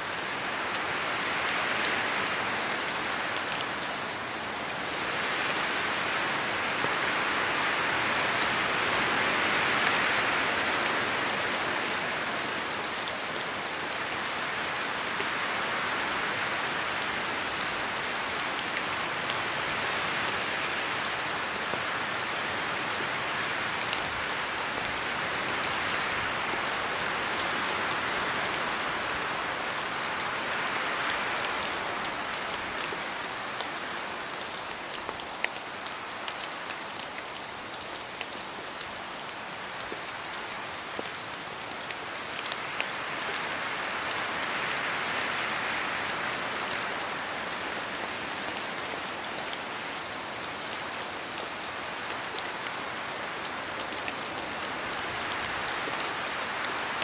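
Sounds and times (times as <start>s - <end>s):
steady rain with wind: 0.0s - 57.0s.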